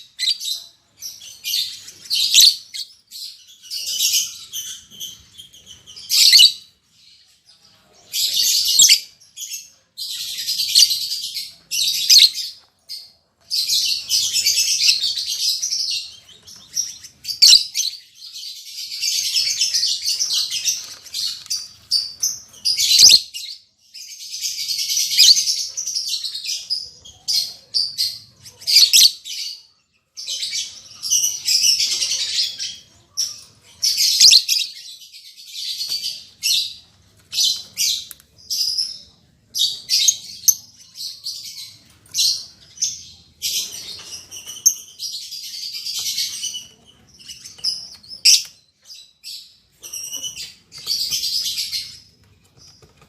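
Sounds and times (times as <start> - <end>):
lovebirds chattering: 0.0 - 53.0.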